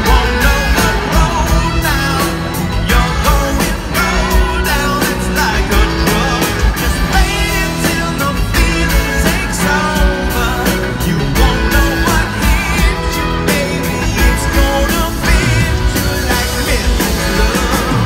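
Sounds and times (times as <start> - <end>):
electric guitars: 0.0 - 18.0
person singing lead vocal: 0.0 - 18.0
steady drum beat: 0.0 - 18.0.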